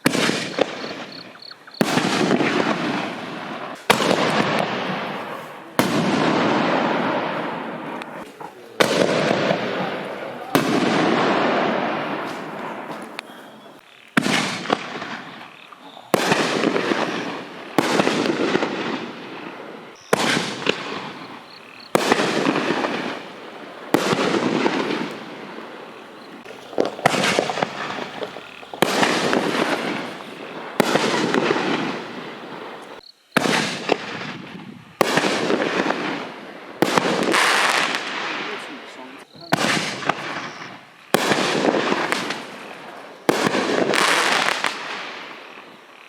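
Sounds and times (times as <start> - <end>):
firework shells banging: 0.0 - 38.6, 39.4 - 45.7.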